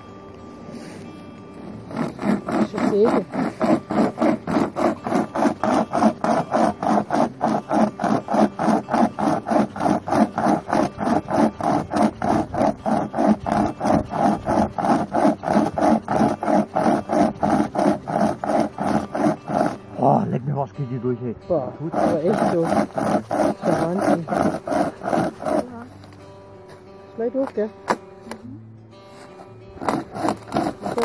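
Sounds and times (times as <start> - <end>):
hand saw cutting wood: 0.8 - 20.4, 21.8 - 28.4, 29.1 - 31.0.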